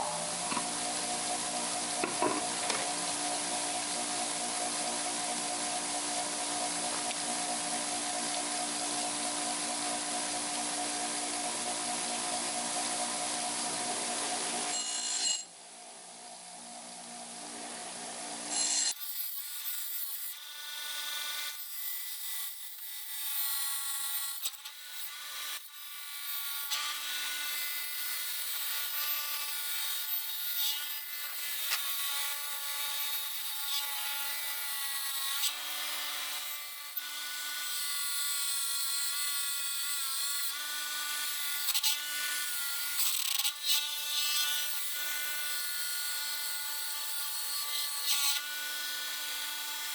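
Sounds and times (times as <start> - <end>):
power tool whining hum: 0.0 - 49.9.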